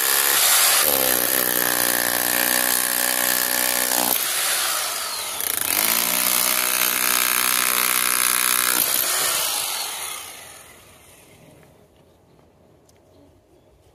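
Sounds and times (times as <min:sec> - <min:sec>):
hammer drill chiseling concrete: 0:00.0 - 0:11.4.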